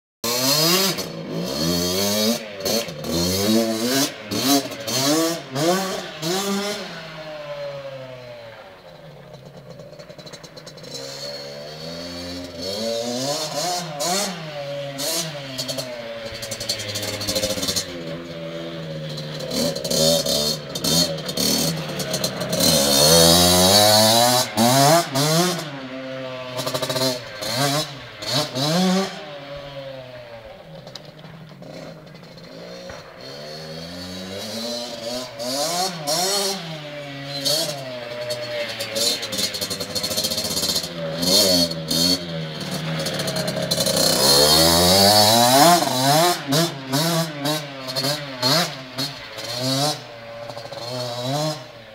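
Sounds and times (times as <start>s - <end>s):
motocross bike engine revving: 0.2s - 51.9s.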